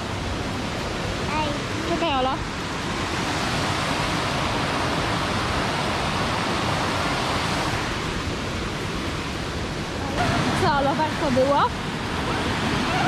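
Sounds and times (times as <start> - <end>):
stream cascading over rocks: 0.0 - 13.0.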